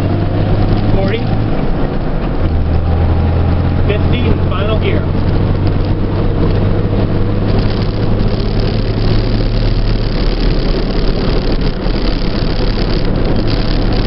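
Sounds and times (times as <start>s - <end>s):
truck engine droning: 0.0s - 14.0s
tyre and road noise: 0.0s - 14.0s.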